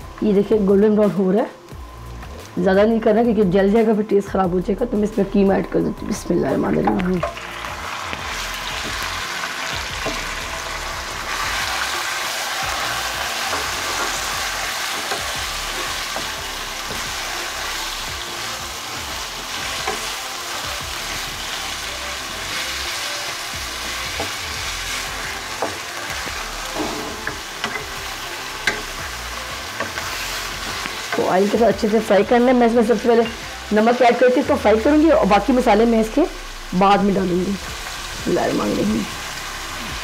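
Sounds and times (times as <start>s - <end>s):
meat sizzling in hot oil: 5.9s - 40.0s.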